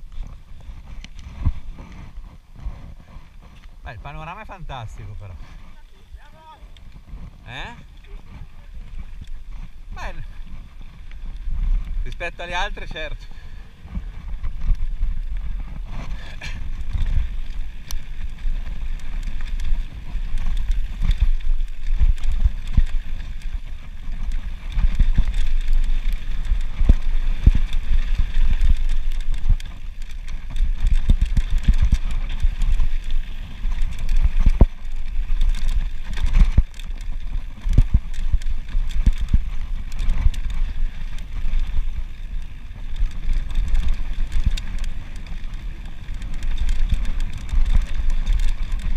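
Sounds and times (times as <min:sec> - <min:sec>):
bike rattling over bumps: 0:00.0 - 0:48.9
wind buffeting microphone: 0:00.0 - 0:48.9.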